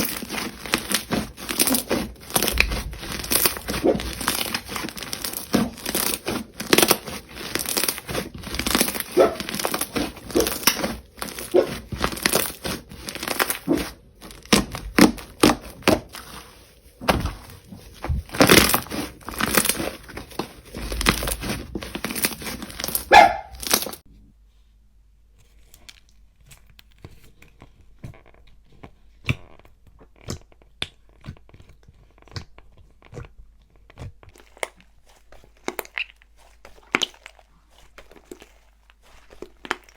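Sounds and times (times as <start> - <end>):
slime crackling and popping: 0.0 - 24.0, 29.3 - 39.9.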